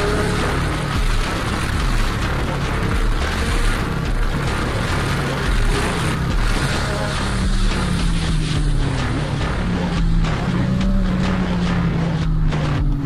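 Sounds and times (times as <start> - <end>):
motorcycle engine with loud exhaust: 0.0 - 13.0.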